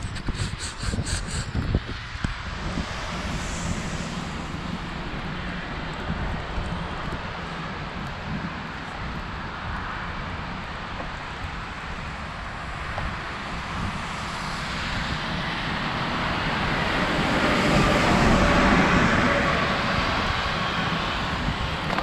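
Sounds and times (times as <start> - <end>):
passing vehicle engine and tyres: 0.0 - 22.0
road traffic noise: 0.0 - 22.0
wind buffeting microphone: 0.0 - 22.0.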